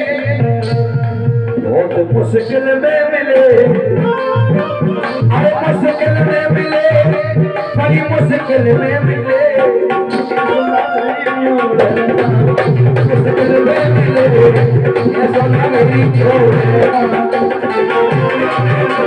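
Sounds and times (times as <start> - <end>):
harmonium melody: 0.0 - 19.0
man singing: 0.0 - 19.0
hand drum beating: 3.5 - 19.0.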